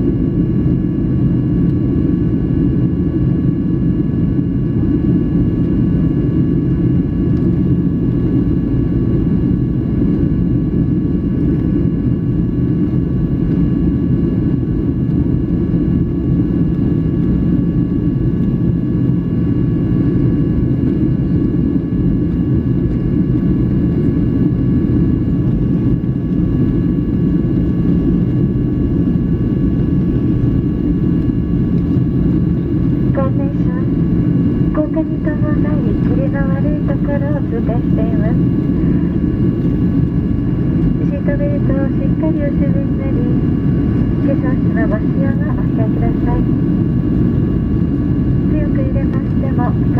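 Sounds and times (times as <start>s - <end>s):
airplane cabin rumble: 0.0s - 49.9s.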